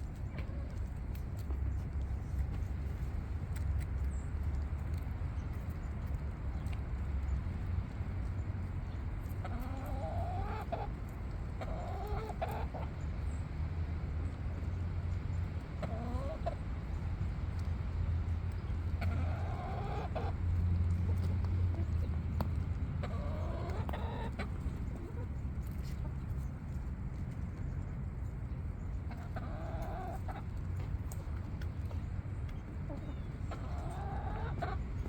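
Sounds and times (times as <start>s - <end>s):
chickens clucking: 0.0s - 13.6s, 14.2s - 35.0s.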